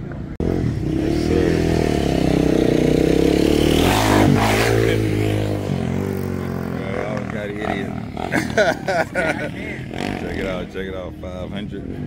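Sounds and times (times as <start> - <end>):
motorcycle engine revving: 0.3 - 12.0.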